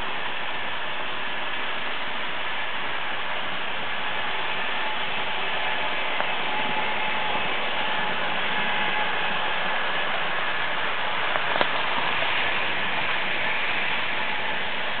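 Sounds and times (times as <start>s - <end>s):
faint motor whine: 0.0s - 15.0s.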